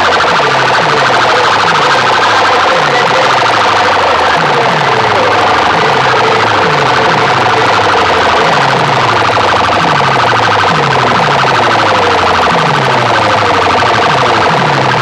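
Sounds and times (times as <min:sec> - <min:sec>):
fast buzzing pulse: 0:00.0 - 0:15.0
siren-like electronic effect: 0:00.0 - 0:15.0.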